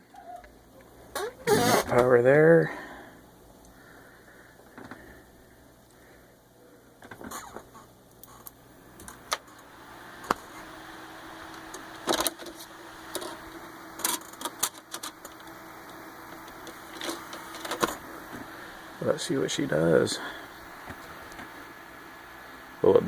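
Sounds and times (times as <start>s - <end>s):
computer fans whirring: 0.0s - 23.0s
faint hum: 0.0s - 23.0s.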